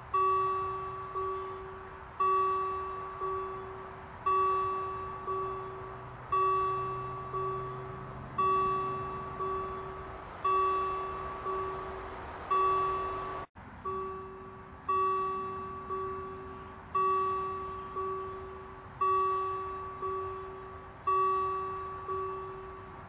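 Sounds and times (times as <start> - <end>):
level-crossing warning bell: 0.0 - 23.0.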